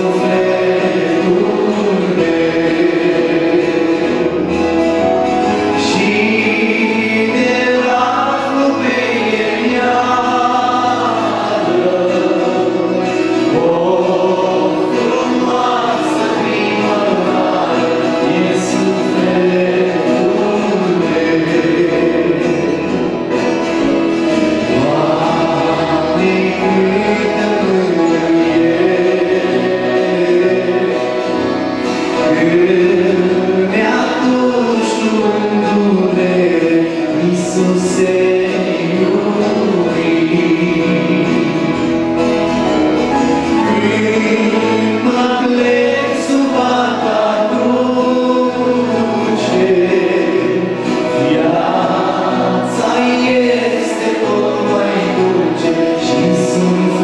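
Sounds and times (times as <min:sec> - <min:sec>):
backing music: 0:00.0 - 0:57.0
person singing a religious song: 0:00.0 - 0:57.0.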